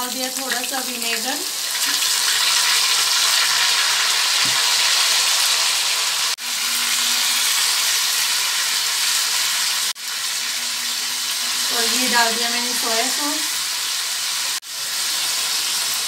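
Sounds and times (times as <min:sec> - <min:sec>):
noodles sizzling in a pan: 0:00.0 - 0:16.0.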